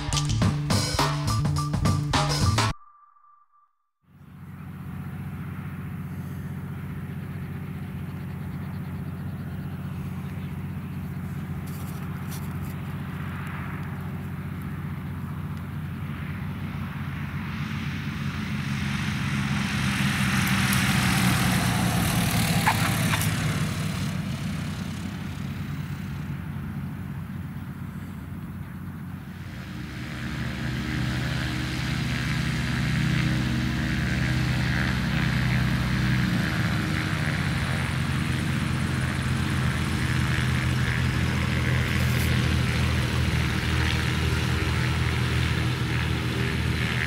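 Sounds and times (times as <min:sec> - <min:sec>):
propeller plane engine drone: 0:04.1 - 0:47.0.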